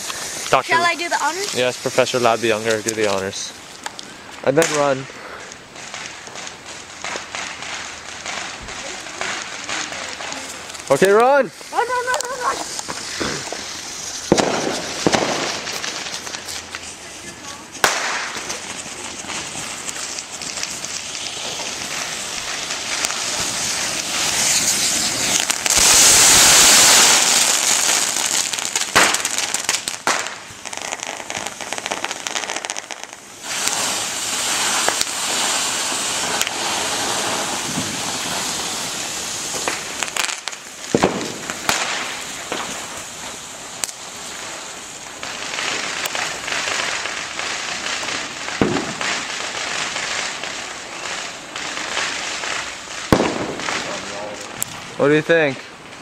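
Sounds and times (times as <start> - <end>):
sparklers fizzing: 0.0 - 56.0
firecracker bangs: 4.4 - 55.6.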